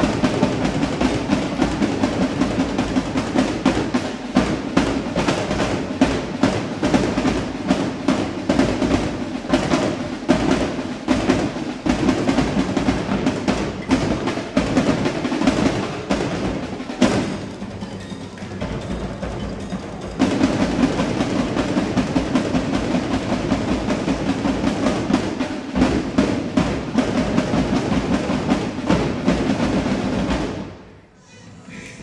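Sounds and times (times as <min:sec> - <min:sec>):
sharp loud drum hit: 0:00.0 - 0:30.8
drum line playing cadence: 0:00.0 - 0:32.0.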